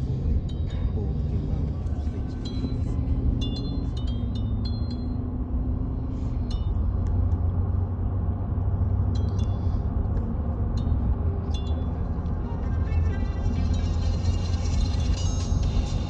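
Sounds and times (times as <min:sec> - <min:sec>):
car driving inside cabin: 0:00.0 - 0:16.0.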